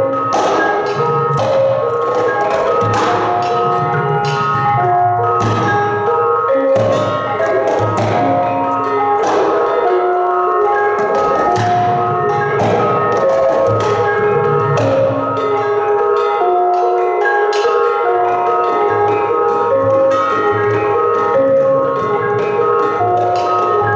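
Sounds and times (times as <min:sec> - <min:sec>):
gongs and metallophones ringing: 0:00.0 - 0:23.9.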